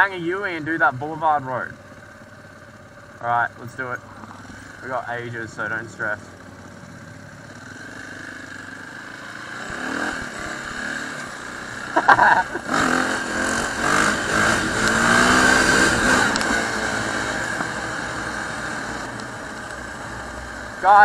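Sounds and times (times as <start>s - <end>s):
dirt bike engine: 0.0s - 21.0s.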